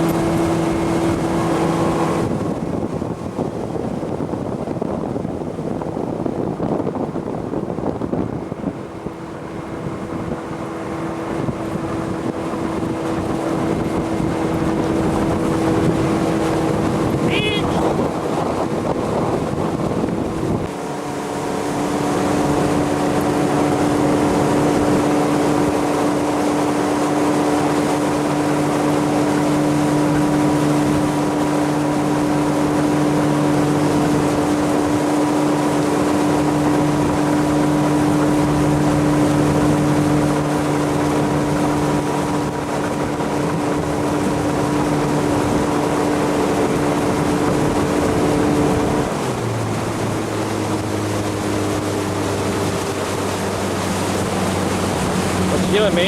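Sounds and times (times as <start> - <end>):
motorboat engine running: 0.0 - 56.0
wind and water rushing: 0.0 - 56.0.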